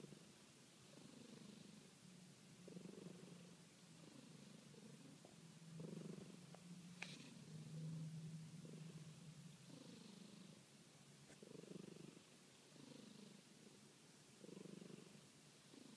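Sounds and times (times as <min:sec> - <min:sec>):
cat purring and snoring: 0:00.0 - 0:01.9, 0:02.6 - 0:10.7, 0:11.3 - 0:15.9.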